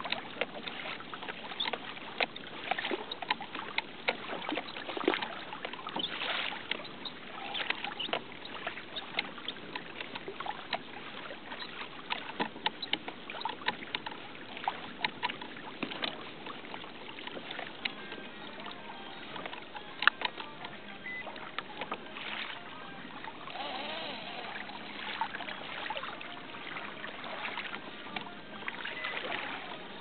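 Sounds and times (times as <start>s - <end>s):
water lapping against kayak hull: 0.0s - 30.0s.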